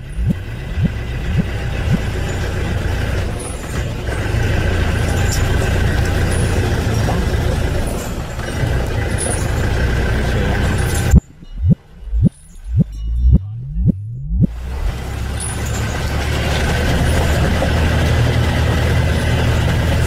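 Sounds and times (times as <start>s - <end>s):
diesel engine low rumble: 0.0s - 20.0s.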